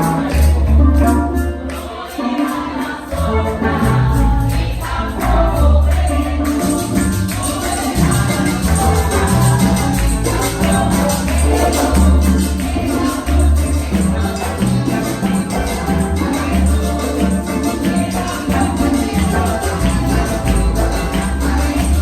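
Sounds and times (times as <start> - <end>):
tambourine rhythm: 0.0 - 22.0
voices singing: 0.0 - 22.0
band with heavy bass: 3.1 - 22.0.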